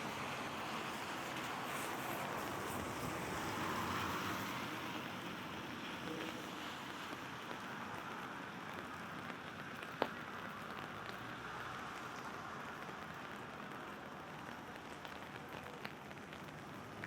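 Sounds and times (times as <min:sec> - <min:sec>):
rain pattering on an umbrella: 0:00.0 - 0:17.0.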